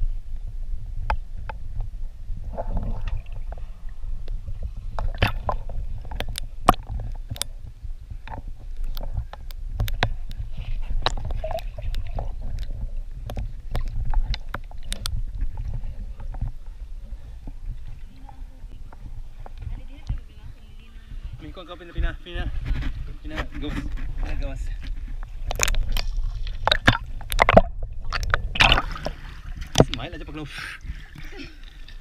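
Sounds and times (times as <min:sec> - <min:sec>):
steady low rumble: 0:00.0 - 0:31.4
water sloshing and splashing: 0:01.4 - 0:32.0.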